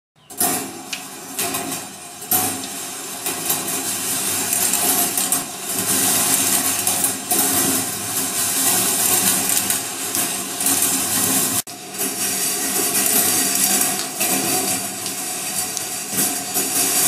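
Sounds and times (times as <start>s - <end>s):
marbles rattling along metal tracks: 0.3s - 17.0s.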